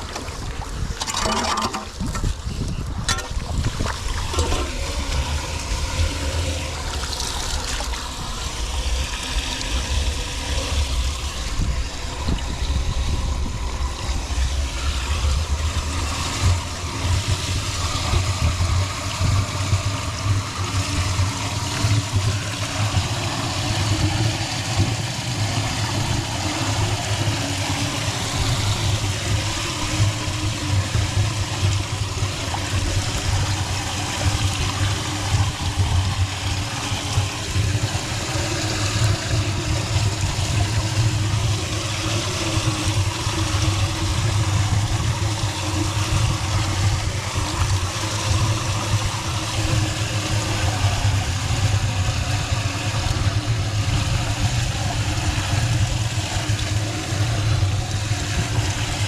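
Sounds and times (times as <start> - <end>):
low uneven rumble: 0.0 - 59.0
water draining into drain: 0.0 - 59.0.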